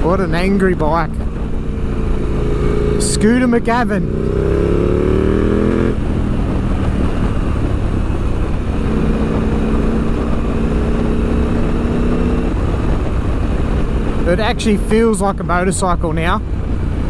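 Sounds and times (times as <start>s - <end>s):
motorcycle engine revving: 0.0s - 17.0s
wind rumble on microphone: 0.0s - 17.0s.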